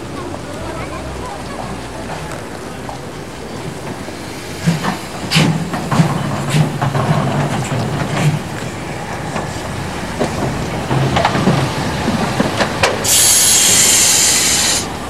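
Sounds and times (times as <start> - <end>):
steam locomotive moving slowly: 0.0 - 15.0
wheels clanking and knocking: 0.0 - 15.0.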